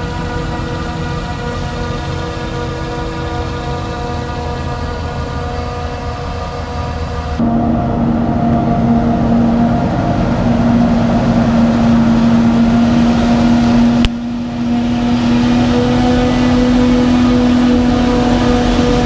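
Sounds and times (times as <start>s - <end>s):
heavy farm machinery engine drone: 0.0s - 19.0s.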